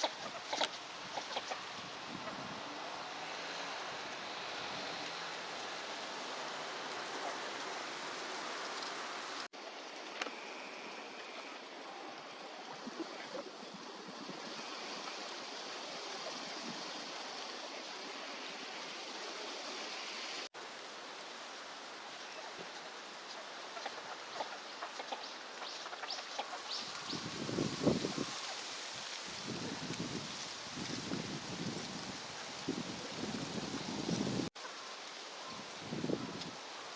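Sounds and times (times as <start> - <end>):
outdoor background hiss: 0.0 - 36.9.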